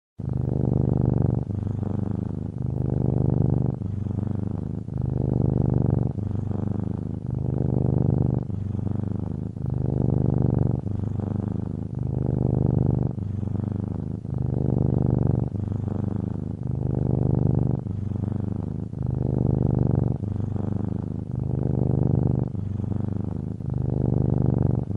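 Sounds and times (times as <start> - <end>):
cat purring: 0.2 - 24.9.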